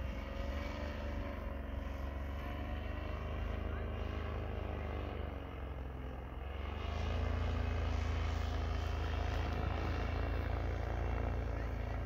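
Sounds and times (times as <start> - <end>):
paramotor engine droning overhead: 0.0 - 12.0.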